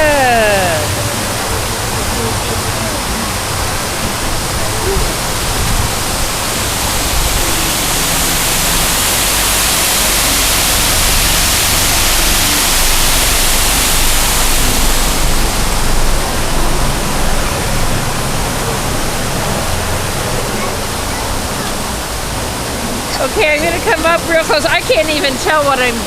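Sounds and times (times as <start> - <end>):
waterfall pouring into pool: 0.1 - 26.0.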